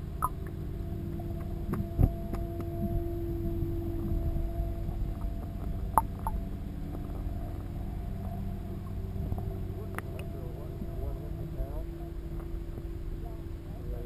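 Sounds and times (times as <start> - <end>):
underwater low rumble and hum: 0.0 - 14.0.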